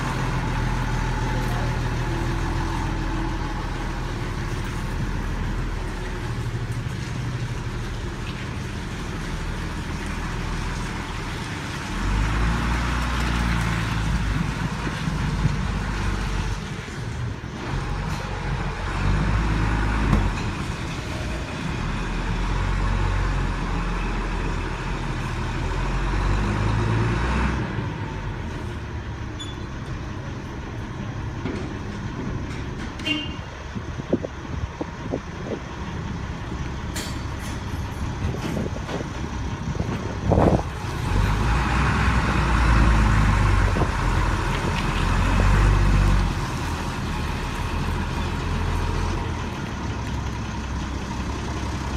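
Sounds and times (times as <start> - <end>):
forklift diesel engine under load: 0.0 - 51.9.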